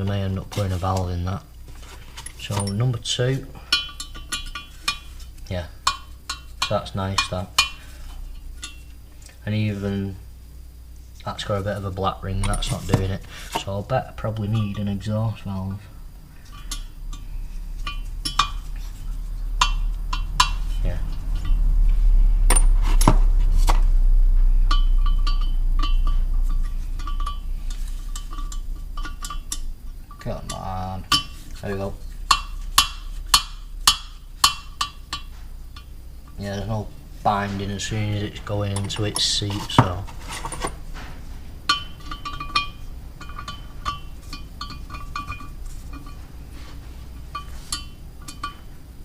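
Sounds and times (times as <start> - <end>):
steady low hum: 0.0 - 49.0
metal valve clinking: 2.0 - 9.4, 11.2 - 21.8, 24.0 - 49.0.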